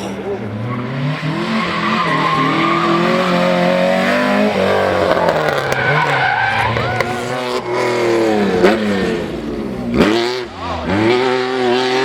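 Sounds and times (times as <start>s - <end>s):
rally car engine revving: 0.1s - 12.0s
tyres skidding on loose surface: 0.2s - 11.4s.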